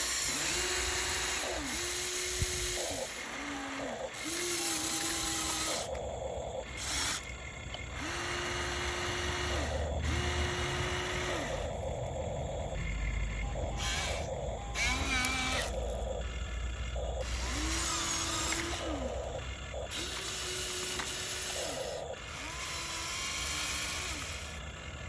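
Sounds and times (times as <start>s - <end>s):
toy motors and gears whirring: 0.0s - 25.0s.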